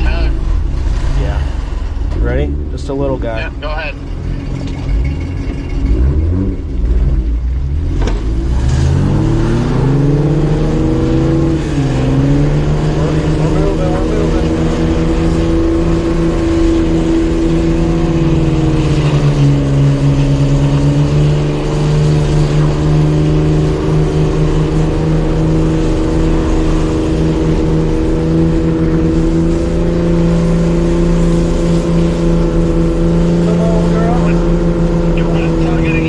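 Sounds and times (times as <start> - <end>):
engine running hard under load: 0.0 - 36.0.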